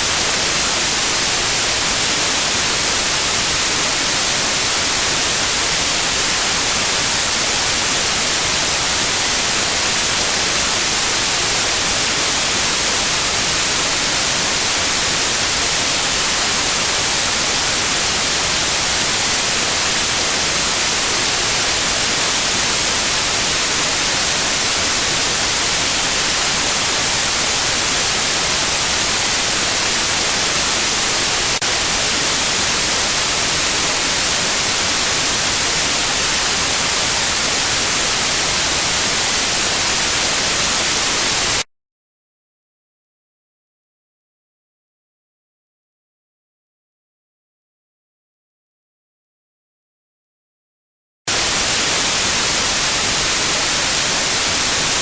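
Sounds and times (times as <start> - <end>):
steady white noise: 0.0 - 41.6, 51.3 - 55.0.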